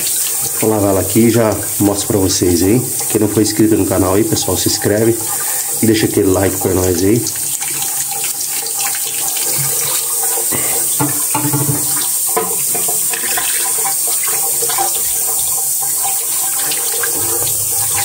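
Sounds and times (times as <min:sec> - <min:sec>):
hose water splashing into basin: 0:00.0 - 0:18.0.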